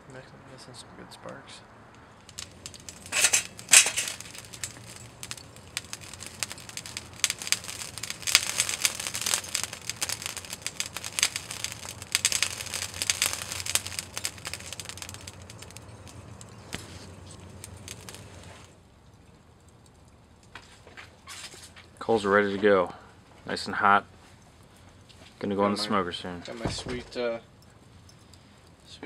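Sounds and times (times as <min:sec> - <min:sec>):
charcoal crackling and popping: 0:01.9 - 0:29.0.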